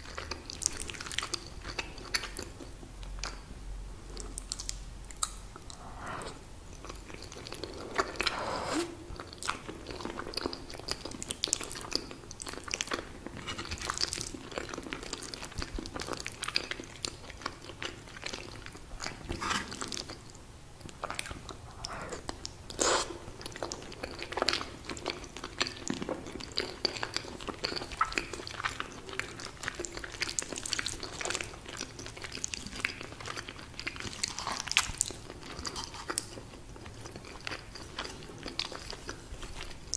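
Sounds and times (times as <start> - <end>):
person chewing food: 0.0 - 3.5, 4.1 - 39.9.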